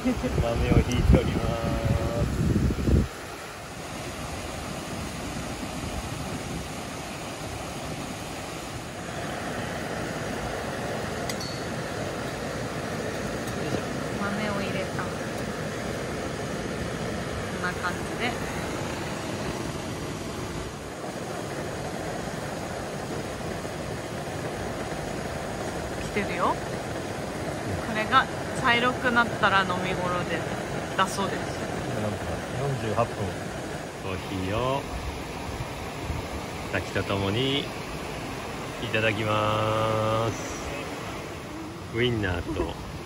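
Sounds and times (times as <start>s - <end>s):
stream rushing over rock: 0.0s - 43.0s.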